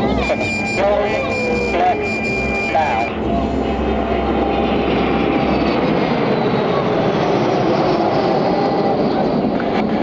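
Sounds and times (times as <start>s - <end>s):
jet aircraft flying past: 0.0s - 10.0s.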